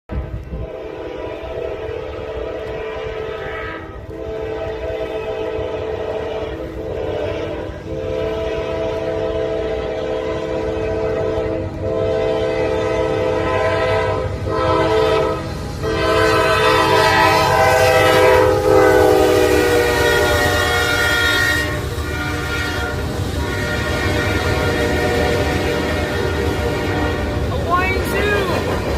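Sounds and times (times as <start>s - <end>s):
passing train rumble: 0.1s - 28.9s
locomotive horn blasts: 0.4s - 27.4s.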